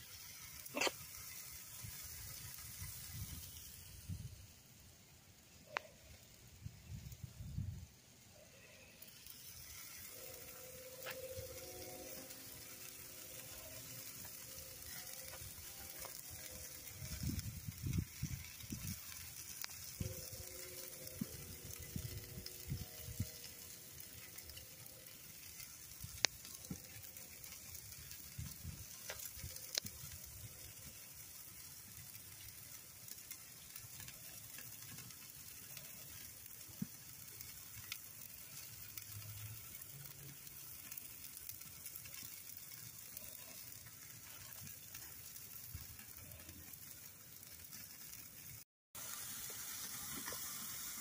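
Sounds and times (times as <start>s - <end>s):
meat sizzling on grill: 0.0s - 51.0s.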